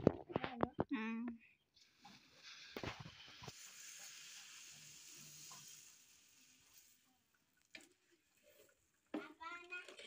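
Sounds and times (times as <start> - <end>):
water pouring into a pot: 1.8 - 10.0.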